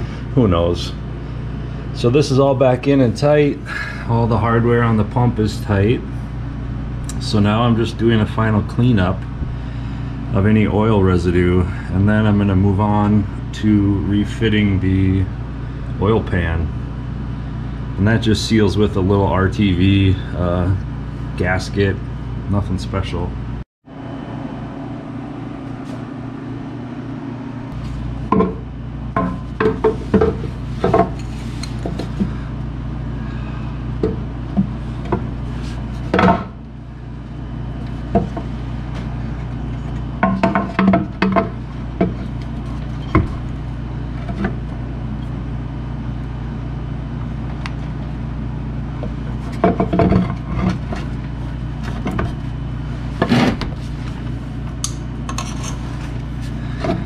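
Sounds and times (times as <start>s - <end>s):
fan humming: 0.0s - 57.0s.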